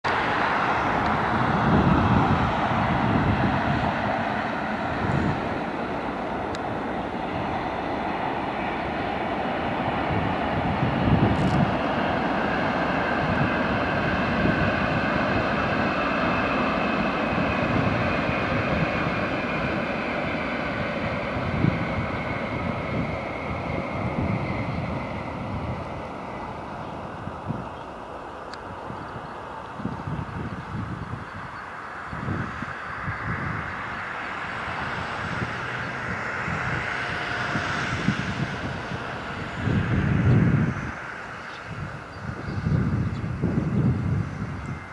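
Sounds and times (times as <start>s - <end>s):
train rumbling across bridge: 0.1s - 44.9s.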